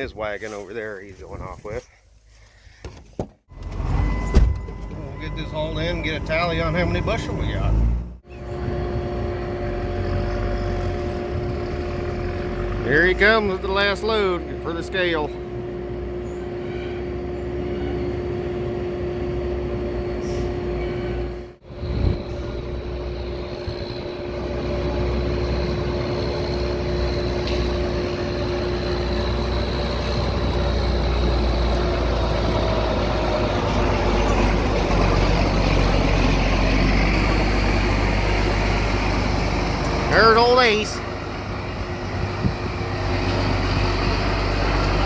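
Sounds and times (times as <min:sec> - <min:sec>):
farm vehicle engine running: 0:03.5 - 0:45.0.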